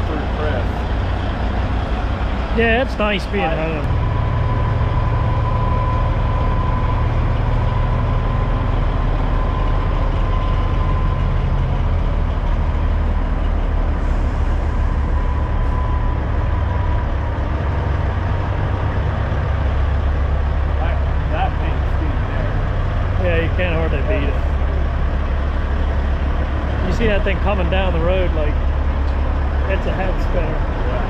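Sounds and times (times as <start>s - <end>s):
diesel truck engine idling: 0.0s - 31.0s.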